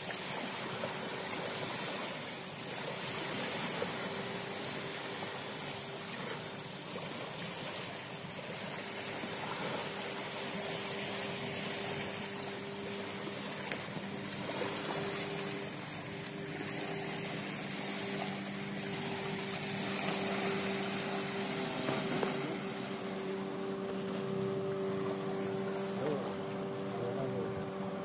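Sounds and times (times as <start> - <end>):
boat engine humming: 0.0 - 28.0
water washing along shore: 0.0 - 28.0.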